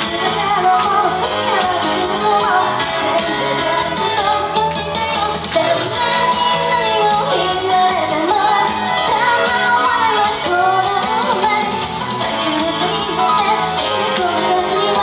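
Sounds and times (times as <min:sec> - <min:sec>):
accompanying pop music: 0:00.0 - 0:15.0
woman singing into microphone: 0:00.0 - 0:15.0.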